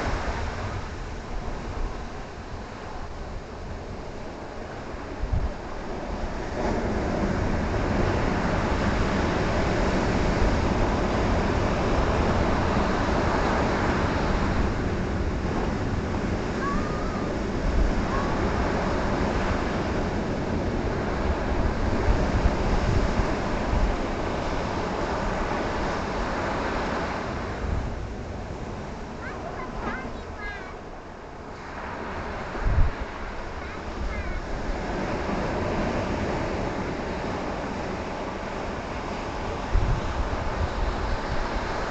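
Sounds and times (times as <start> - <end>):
ocean waves crashing on shore: 0.0 - 41.9
wind buffeting microphone: 0.0 - 41.9.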